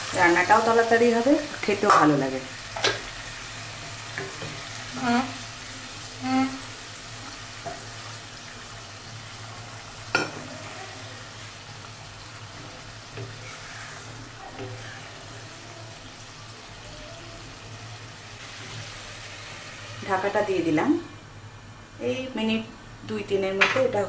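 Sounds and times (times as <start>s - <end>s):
fish sizzling in a pan: 0.0s - 20.4s.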